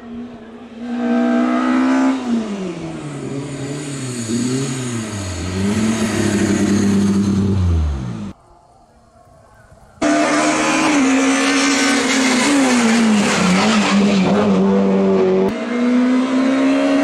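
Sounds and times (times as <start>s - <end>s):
race car engine at high revs: 0.3s - 8.3s, 10.0s - 17.0s.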